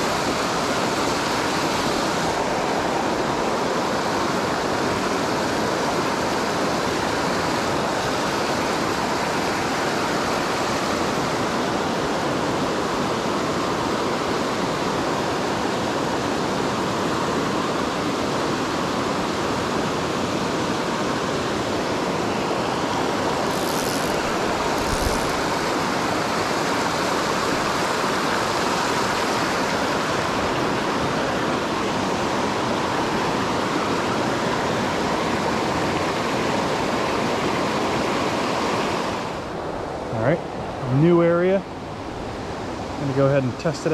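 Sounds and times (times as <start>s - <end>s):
stream rushing over rapids: 0.0s - 43.9s.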